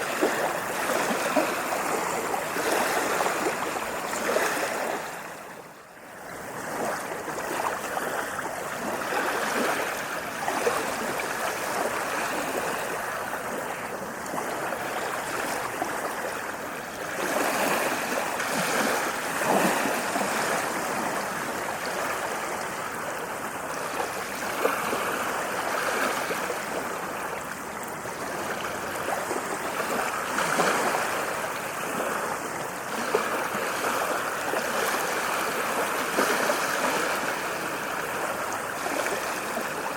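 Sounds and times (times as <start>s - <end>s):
ocean waves on beach: 0.0s - 39.9s.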